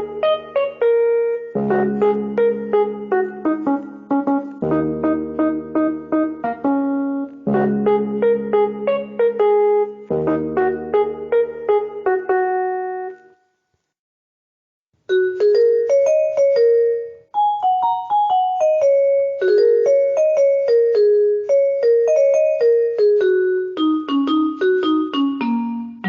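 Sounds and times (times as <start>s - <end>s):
keyboard playing single-note melody: 0.0s - 13.3s, 15.1s - 26.0s.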